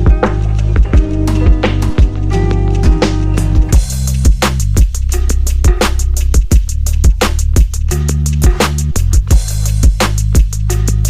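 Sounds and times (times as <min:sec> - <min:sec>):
deep bass line: 0:00.0 - 0:11.0
electronic music with fast drum beat: 0:00.0 - 0:11.0.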